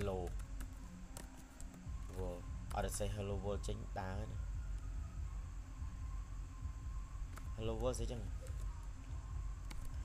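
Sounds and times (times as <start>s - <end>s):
low steady hum and rumble: 1.8s - 10.0s.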